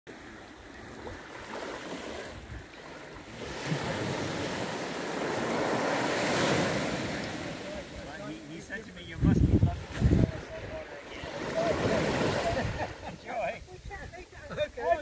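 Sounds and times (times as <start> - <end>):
waves washing up beach: 0.1 - 15.0.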